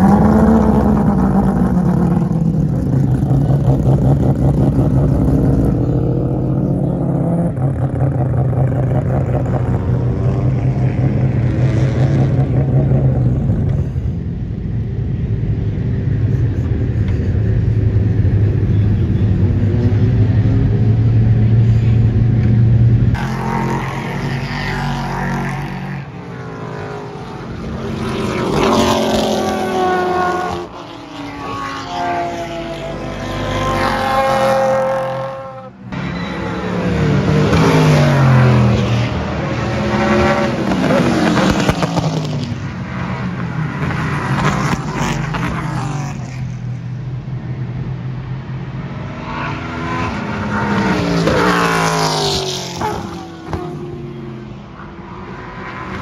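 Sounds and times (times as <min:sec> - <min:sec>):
race cars passing: 0:00.0 - 0:56.0.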